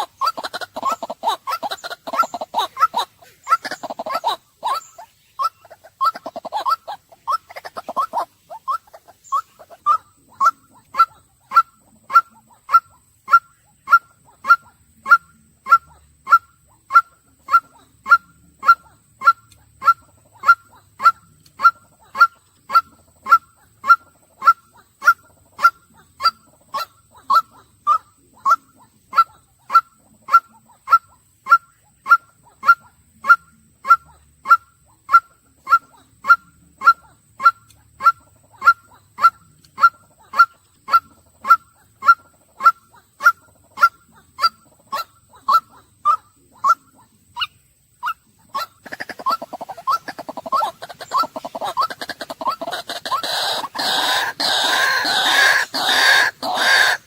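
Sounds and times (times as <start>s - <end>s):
bird honking calls: 0.0s - 57.0s.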